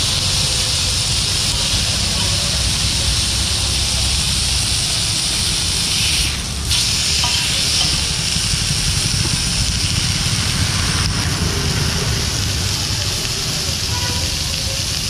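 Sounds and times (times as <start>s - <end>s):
fish sizzling on a griddle: 0.0s - 15.0s
low rumble of fire: 0.0s - 15.0s.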